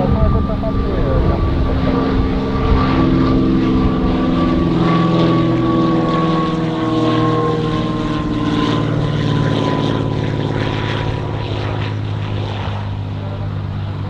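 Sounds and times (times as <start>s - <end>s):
propeller aircraft passing: 0.0s - 14.0s.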